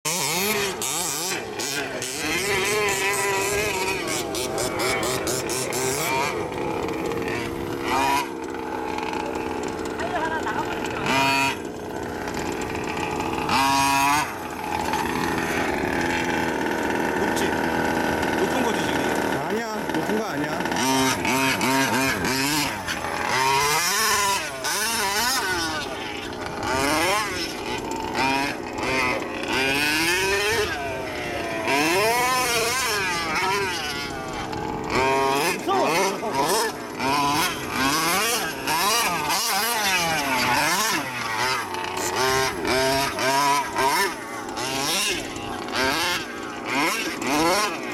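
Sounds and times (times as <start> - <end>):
small two-stroke engine revving: 0.0 - 47.9.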